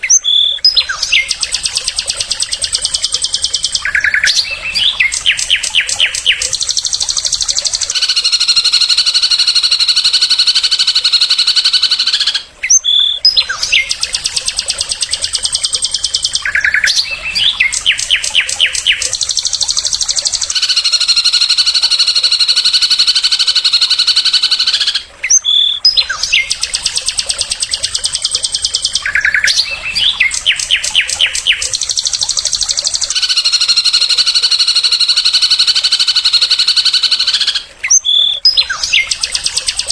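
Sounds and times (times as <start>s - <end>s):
buzzy bird trills: 0.0s - 39.9s
songbird chattering notes: 0.0s - 39.9s.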